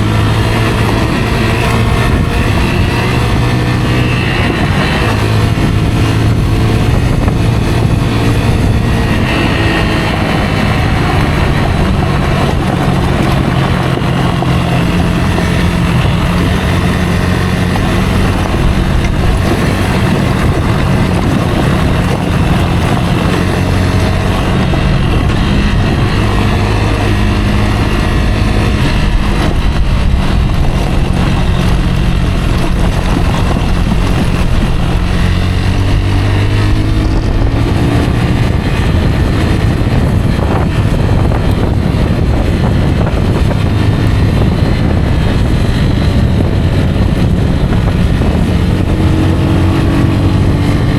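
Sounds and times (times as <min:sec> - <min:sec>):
motorcycle engine revving while riding: 0:00.0 - 0:50.9
steady rushing noise: 0:00.0 - 0:50.9.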